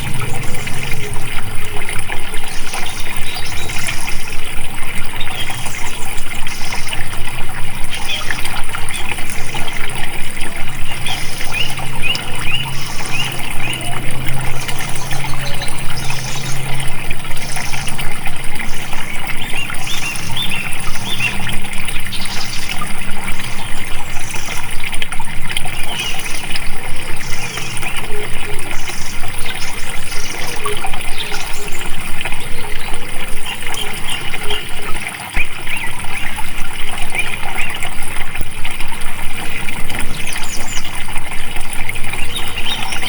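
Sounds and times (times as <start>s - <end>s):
flowing water splashing: 0.0s - 43.0s.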